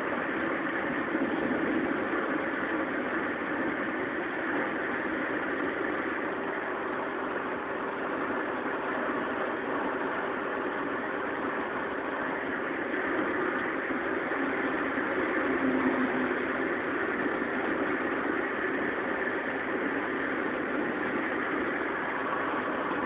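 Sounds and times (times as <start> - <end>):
engine and road noise: 0.0 - 23.0
faint steady hum: 0.0 - 23.0.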